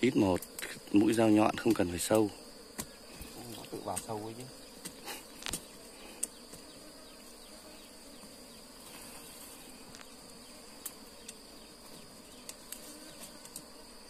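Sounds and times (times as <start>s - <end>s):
high insect trill: 0.0s - 14.0s
honeybees buzzing: 0.0s - 14.0s.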